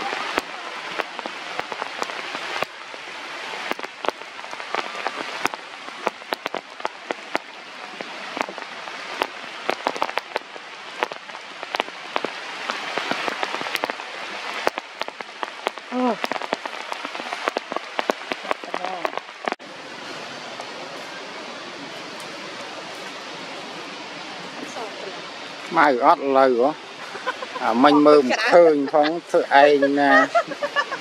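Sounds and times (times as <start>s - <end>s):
raindrops striking close by: 0.0s - 31.0s
steady rain: 0.0s - 31.0s.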